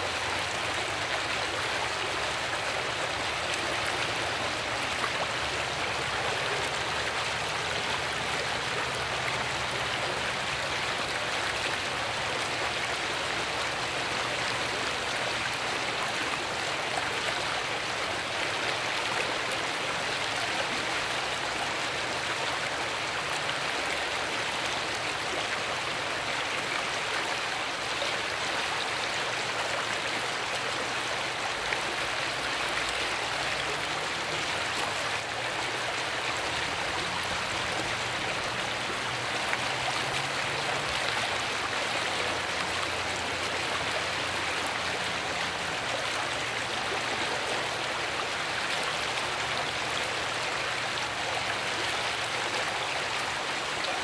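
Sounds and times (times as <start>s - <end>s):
creek water rushing over rocks: 0.0s - 54.0s.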